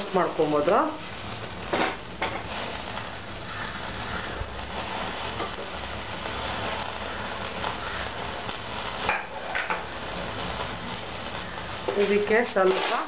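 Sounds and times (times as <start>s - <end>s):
gas burner flame rumbling: 0.0s - 13.0s.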